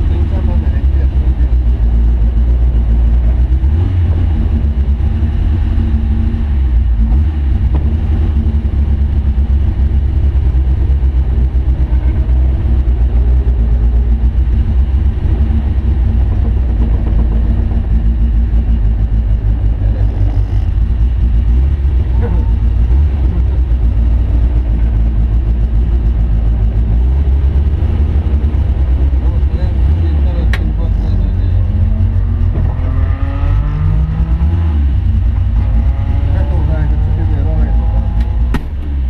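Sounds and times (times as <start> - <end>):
car engine rumbling at low revs: 0.0 - 39.0.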